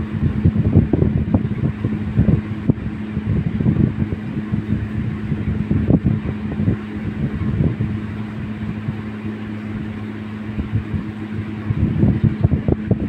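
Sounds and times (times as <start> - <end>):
air rumbling on microphone: 0.0 - 13.0
electric fan humming: 0.0 - 13.0.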